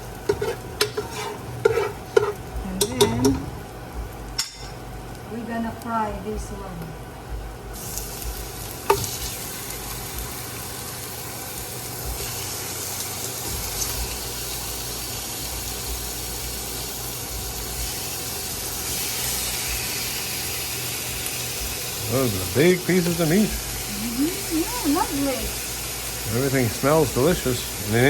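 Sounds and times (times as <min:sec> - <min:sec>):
meat sizzling in a pan: 0:00.0 - 0:03.7, 0:07.7 - 0:28.0.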